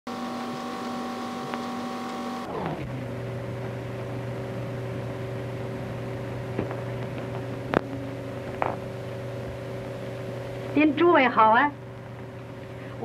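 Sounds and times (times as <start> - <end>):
machine-like hum: 0.1 - 13.0.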